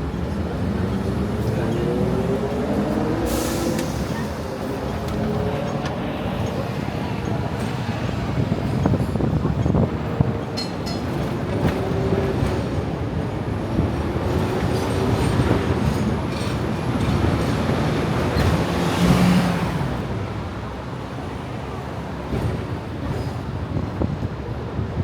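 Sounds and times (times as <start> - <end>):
tram rumbling on rails: 0.0 - 25.0
tram whining tones: 0.0 - 25.0.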